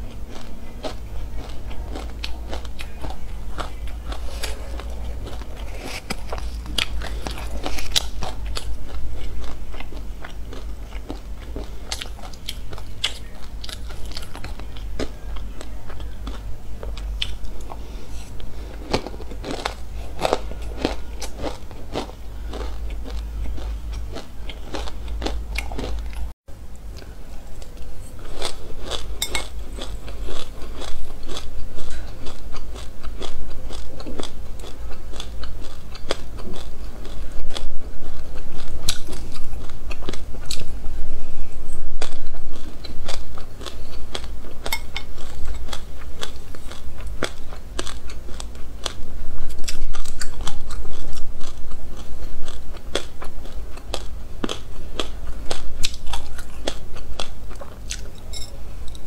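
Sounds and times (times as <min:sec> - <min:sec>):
chewing crunchy seeds: 0:00.0 - 0:59.0.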